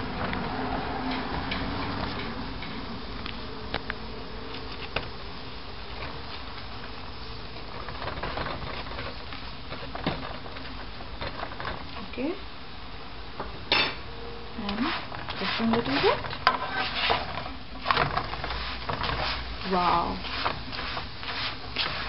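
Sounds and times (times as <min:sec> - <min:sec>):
flatbread sizzling in a pan: 0:00.0 - 0:22.0.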